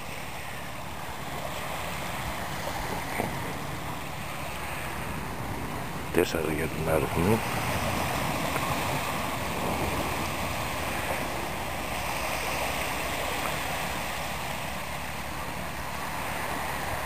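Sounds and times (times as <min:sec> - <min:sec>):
low rumble: 0:00.0 - 0:16.7
small waves breaking on beach: 0:00.0 - 0:17.0.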